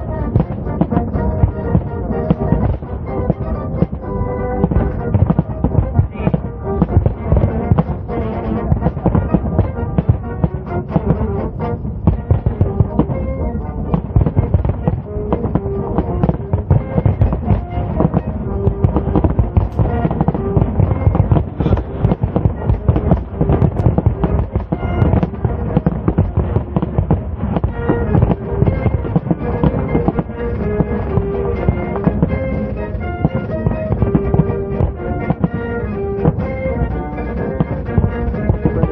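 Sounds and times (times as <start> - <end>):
fireworks bursting: 0.0 - 38.9
music with held notes: 0.0 - 38.9.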